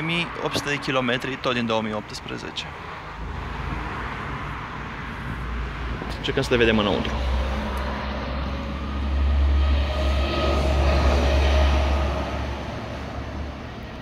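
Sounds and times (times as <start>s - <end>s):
passing motor vehicle rumble: 0.0s - 14.0s.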